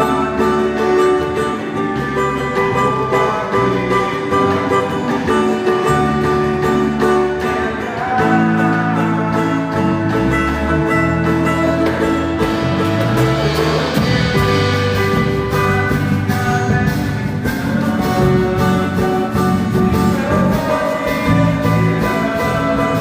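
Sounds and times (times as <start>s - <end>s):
instrumental worship music: 0.0s - 23.0s.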